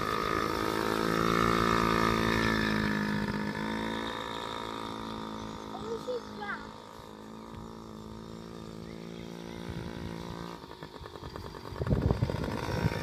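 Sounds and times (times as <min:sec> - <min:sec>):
dirt bike engine buzzing: 0:00.0 - 0:13.0.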